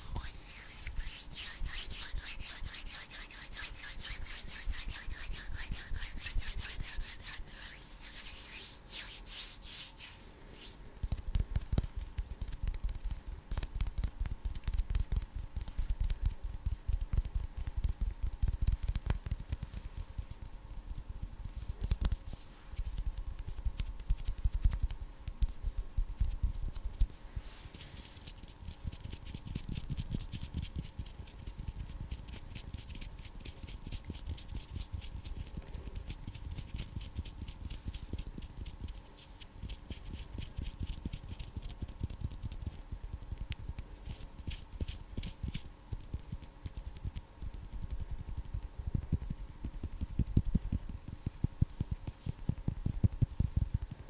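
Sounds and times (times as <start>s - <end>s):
hands rubbing and tapping: 0.0s - 54.0s.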